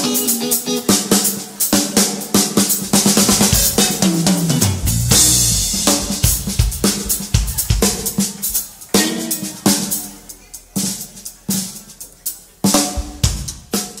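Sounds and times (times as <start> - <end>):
band playing accented hits: 0.0 - 14.0.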